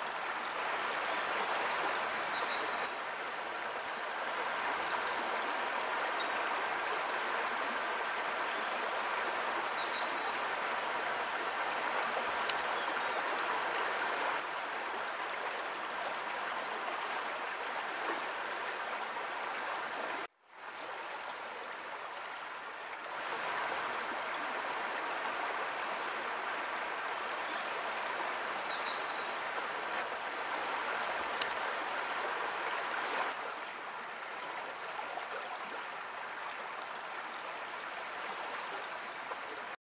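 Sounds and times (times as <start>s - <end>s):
running water rushing: 0.0s - 39.8s.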